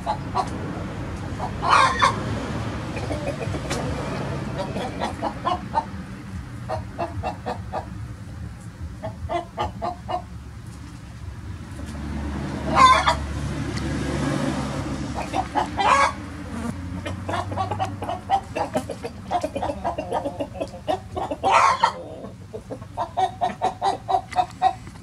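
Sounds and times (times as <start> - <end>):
chickens clucking: 0.0 - 8.0, 9.0 - 10.4, 12.6 - 13.3, 15.0 - 25.0.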